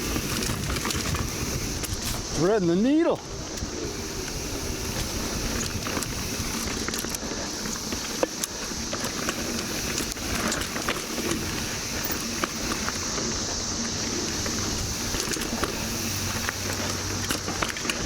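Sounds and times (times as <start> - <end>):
bike ticks and rattles: 0.0 - 18.0
bike tyre and wind rumble: 0.0 - 18.0
cicada chorus drone: 0.0 - 18.0.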